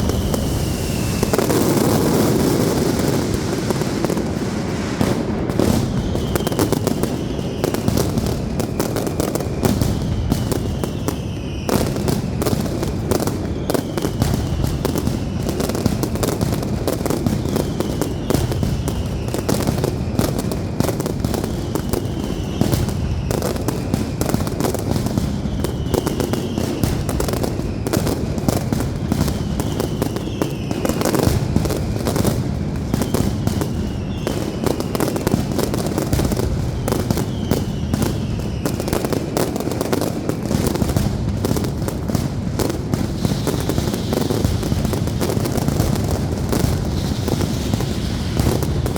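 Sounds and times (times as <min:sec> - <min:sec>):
falling firework whistle: 0:00.0 - 0:48.9
fireworks bangs and crackling: 0:00.0 - 0:48.9.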